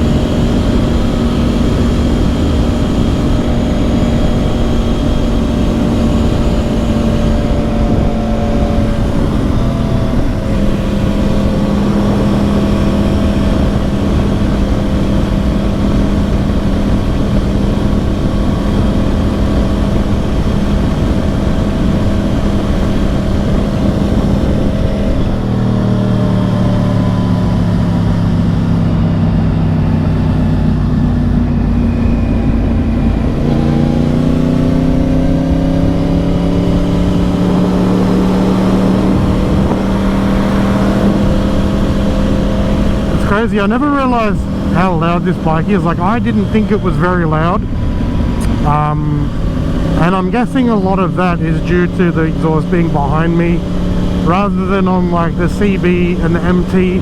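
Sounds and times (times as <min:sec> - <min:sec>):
motorcycle engine cruising: 0:00.0 - 0:57.0
wind rush: 0:00.0 - 0:57.0.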